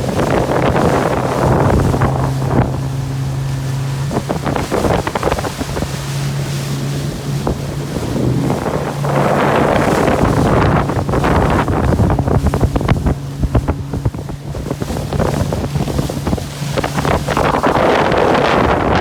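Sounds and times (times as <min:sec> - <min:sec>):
motorboat engine humming: 0:00.0 - 0:19.0
rushing water: 0:00.0 - 0:19.0
wind buffeting microphone: 0:00.0 - 0:19.0.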